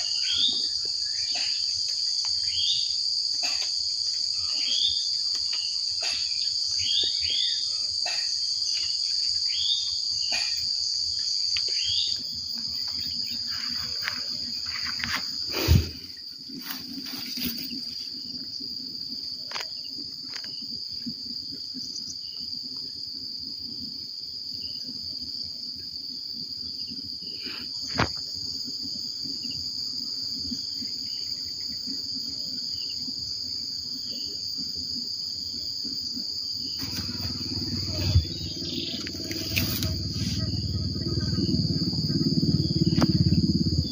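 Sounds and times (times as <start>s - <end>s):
shrill insect chorus: 0.0s - 43.9s.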